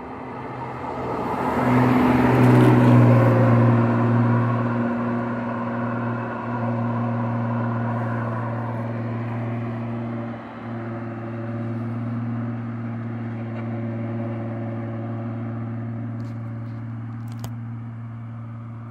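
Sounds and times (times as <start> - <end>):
car engine running: 3.0 - 18.9.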